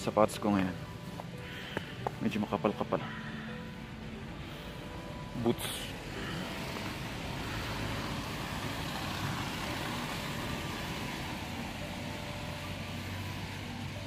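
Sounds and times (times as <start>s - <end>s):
cars driving on snow: 0.0s - 14.0s.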